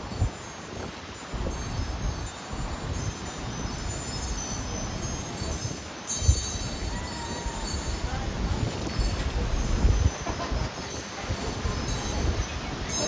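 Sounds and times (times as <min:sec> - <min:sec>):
wind buffeting microphone: 0:00.0 - 0:13.0
wind chimes ringing: 0:00.0 - 0:13.0.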